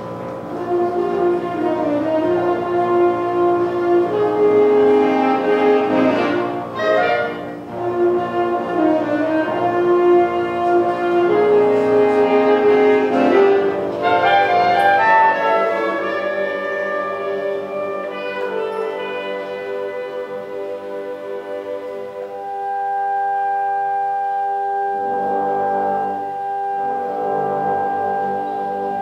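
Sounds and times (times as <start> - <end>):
band playing held chords: 0.0 - 29.0.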